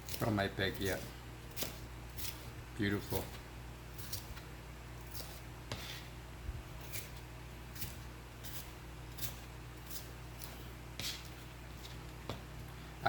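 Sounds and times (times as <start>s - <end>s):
knife cutting pepper on board: 0.0s - 4.4s, 5.0s - 6.1s, 6.8s - 12.5s.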